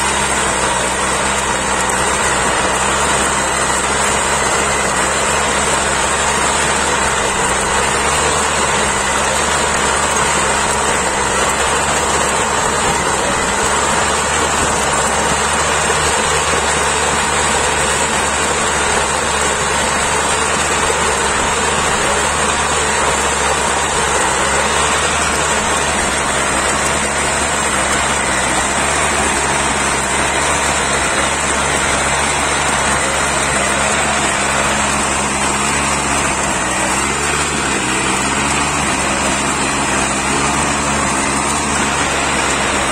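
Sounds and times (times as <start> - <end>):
tiller engine running: 0.0 - 42.9.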